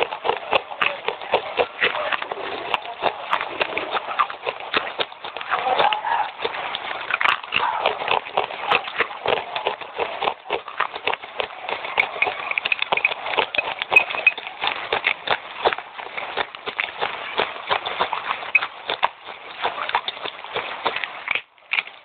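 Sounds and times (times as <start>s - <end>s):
clay chips crunching being chewed: 0.0s - 22.0s.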